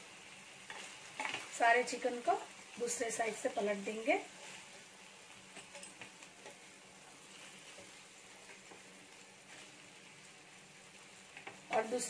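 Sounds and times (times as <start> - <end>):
chicken sizzling in a grill pan: 0.0 - 12.0.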